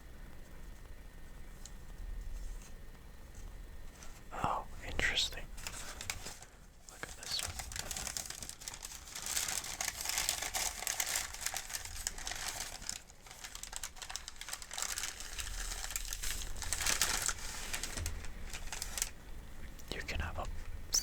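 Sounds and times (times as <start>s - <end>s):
paper crinkling and rustling: 0.3s - 19.2s.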